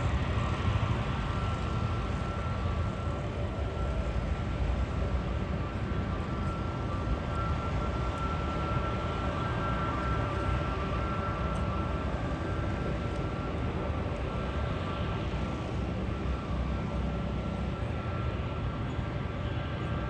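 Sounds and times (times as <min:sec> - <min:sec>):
aircraft engines rumbling: 0:00.0 - 0:20.0.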